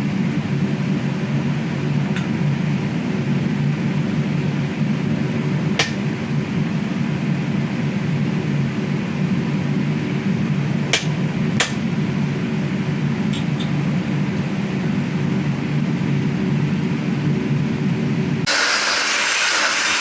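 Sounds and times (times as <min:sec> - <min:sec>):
fan humming: 0:00.0 - 0:20.0.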